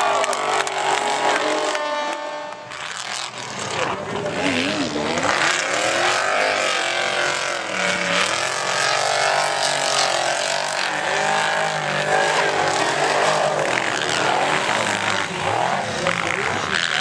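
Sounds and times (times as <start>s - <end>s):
truck engines revving hard: 0.0s - 17.0s.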